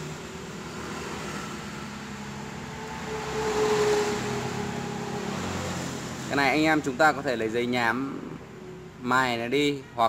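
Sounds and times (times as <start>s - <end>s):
vehicle engine drone: 0.0s - 10.0s.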